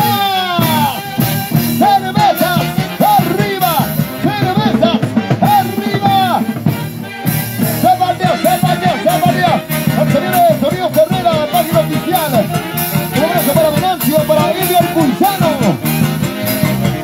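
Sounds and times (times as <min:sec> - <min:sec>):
bass: 0:00.0 - 0:17.0
orchestra playing folk melody: 0:00.0 - 0:17.0
steady drum beat: 0:00.0 - 0:17.0.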